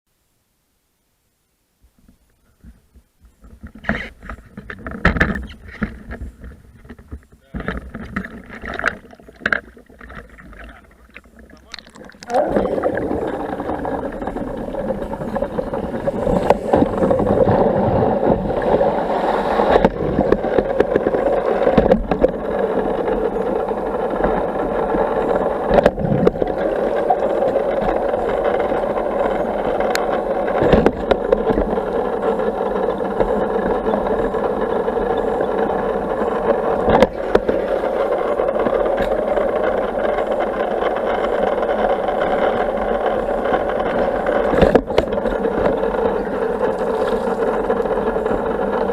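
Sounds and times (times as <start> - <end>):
pool vacuum whirring in water: 8.0 - 48.9.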